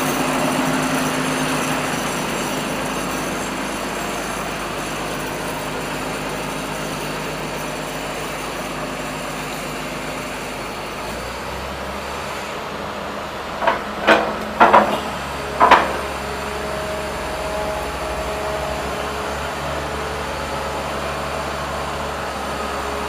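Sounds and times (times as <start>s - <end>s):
diesel excavator engine running: 0.0s - 23.0s.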